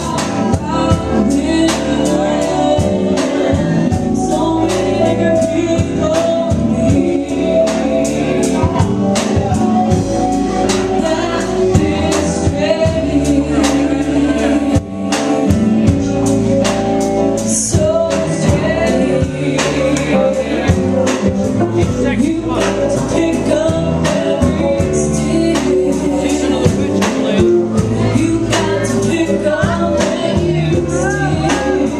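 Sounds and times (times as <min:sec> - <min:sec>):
band playing a song: 0:00.0 - 0:31.9
person singing: 0:00.0 - 0:31.9
steady drum beat: 0:00.0 - 0:31.9.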